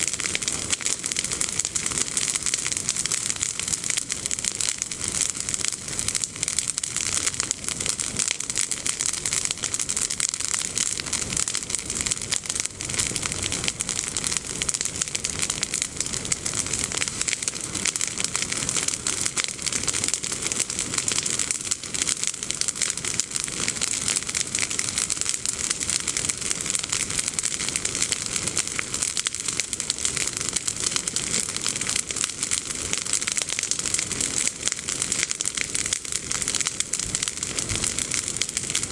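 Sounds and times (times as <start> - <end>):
bonfire crackling: 0.0 - 38.9.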